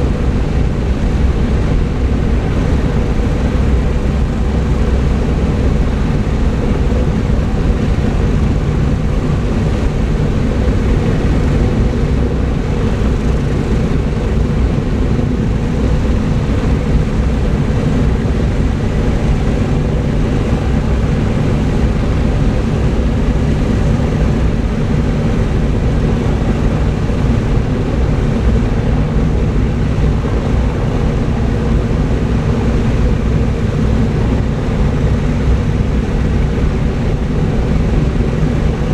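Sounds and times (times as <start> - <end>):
propeller plane engines droning: 0.0 - 38.9.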